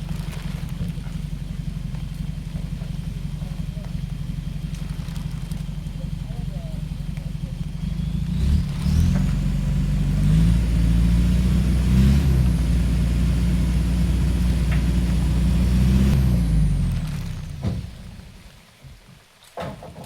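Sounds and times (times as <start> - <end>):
truck engine revving: 0.0 - 18.6.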